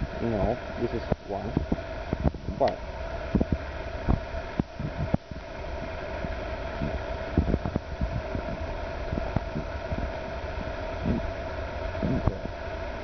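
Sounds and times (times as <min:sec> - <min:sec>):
steady mid-pitched hum: 0:00.0 - 0:13.0
wind rumbling on microphone: 0:00.0 - 0:13.0.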